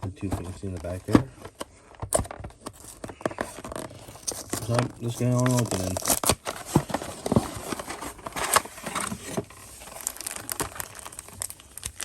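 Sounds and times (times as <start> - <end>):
packaging crinkling and rustling: 0.1 - 12.0.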